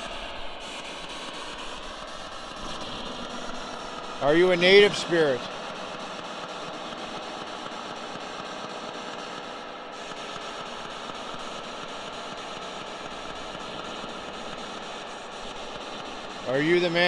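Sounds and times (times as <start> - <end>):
faint hum: 0.0 - 17.0
static hiss: 0.0 - 17.0.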